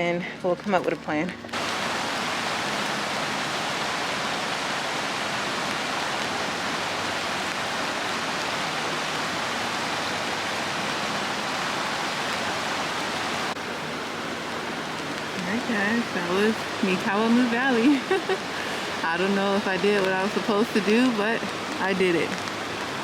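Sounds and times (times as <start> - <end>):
waterfall roaring: 1.5 - 23.0.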